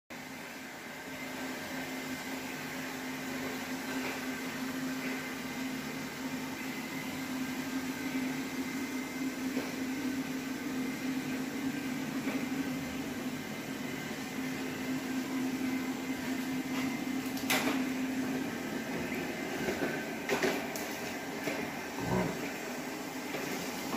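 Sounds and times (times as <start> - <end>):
floor cleaner motor humming: 0.2 - 23.9.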